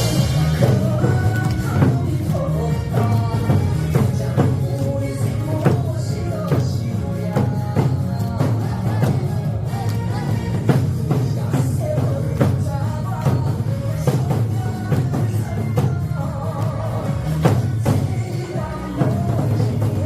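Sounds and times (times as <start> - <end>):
heavy drum strokes: 0.0 - 20.0
recorded song with singing: 0.0 - 20.0.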